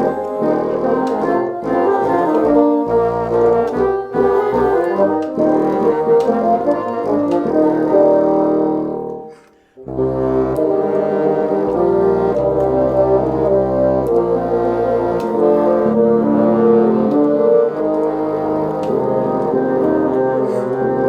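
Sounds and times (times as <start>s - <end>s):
bassoon ensemble playing chords: 0.0s - 21.0s.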